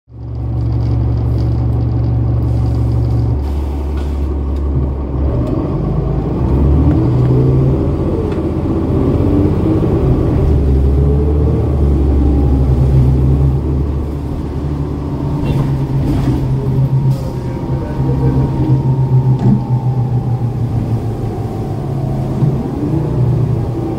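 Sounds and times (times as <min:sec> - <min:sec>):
bus diesel engine idling: 0:00.3 - 0:23.9.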